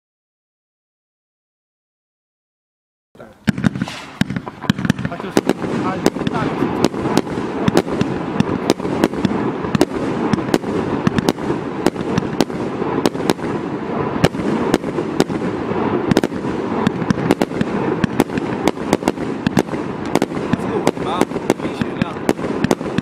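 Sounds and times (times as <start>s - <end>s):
firework shots: 3.2s - 23.0s
firework rushing noise: 3.3s - 23.0s.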